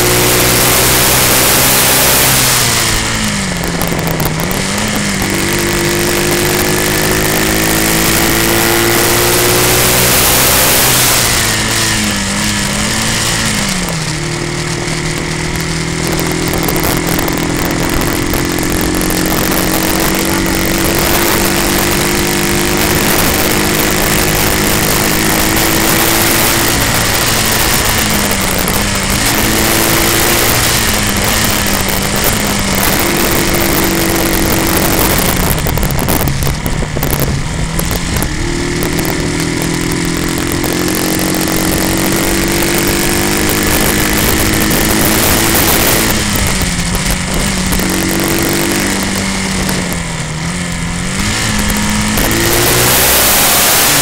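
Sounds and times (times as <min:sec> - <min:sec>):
motorcycle engine revving: 0:00.0 - 0:54.0
steady rushing noise: 0:00.0 - 0:54.0.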